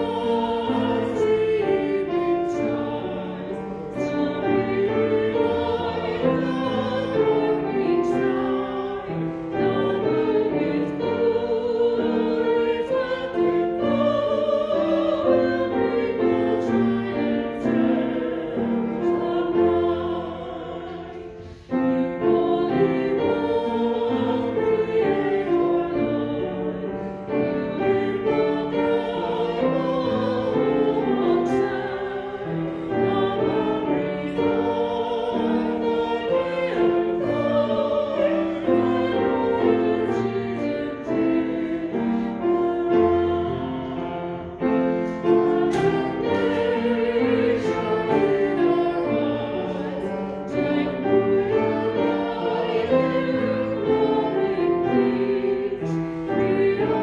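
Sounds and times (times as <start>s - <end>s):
choir singing with piano: 0.0s - 57.0s.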